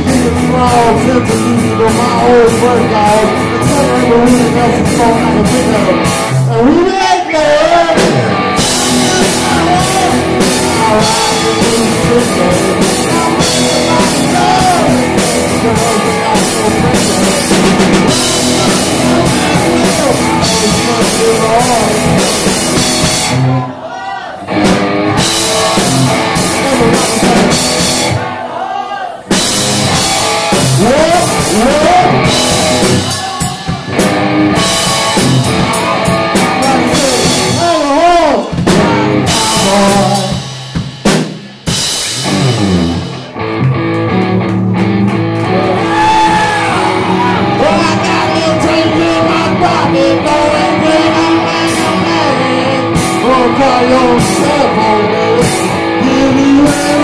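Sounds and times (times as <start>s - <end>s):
electric guitar: 0.0s - 6.9s, 7.5s - 23.7s, 24.4s - 28.3s, 29.3s - 57.0s
drum kit: 0.0s - 23.7s, 24.4s - 57.0s
man singing: 0.0s - 24.4s, 25.2s - 34.0s, 34.6s - 40.8s, 45.6s - 57.0s.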